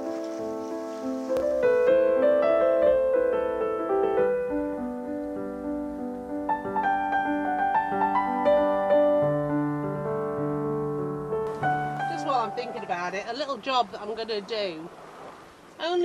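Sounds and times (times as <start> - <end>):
piano music: 0.0 - 14.3.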